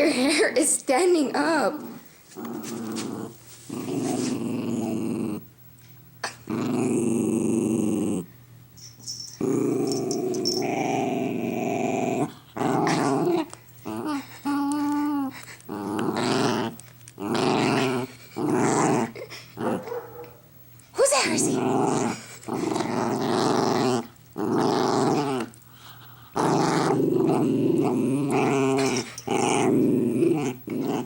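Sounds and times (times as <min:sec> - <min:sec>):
dog growling: 0:01.4 - 0:05.5, 0:06.2 - 0:08.3, 0:09.4 - 0:20.4, 0:21.2 - 0:31.0.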